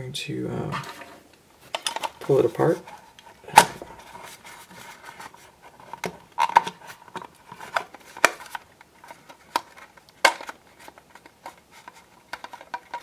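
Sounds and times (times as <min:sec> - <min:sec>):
light rubbing of plastic: 0:00.8 - 0:13.0.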